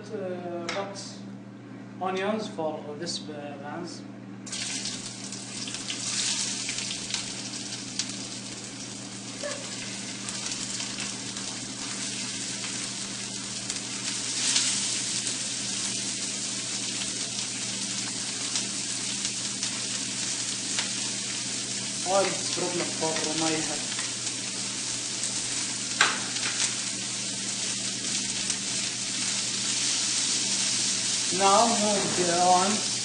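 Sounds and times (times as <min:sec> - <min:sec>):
onions sizzling in oil: 0:04.5 - 0:33.0.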